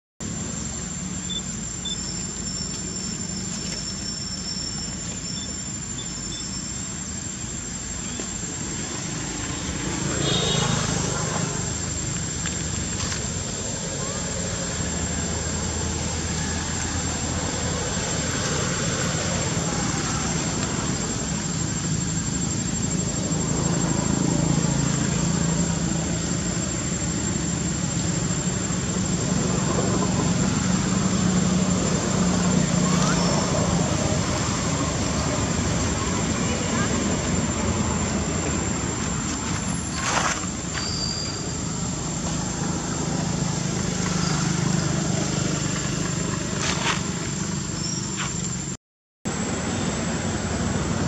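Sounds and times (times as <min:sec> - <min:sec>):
thin high whine: 0:00.2 - 0:46.0
low engine-like hum: 0:00.2 - 0:48.7.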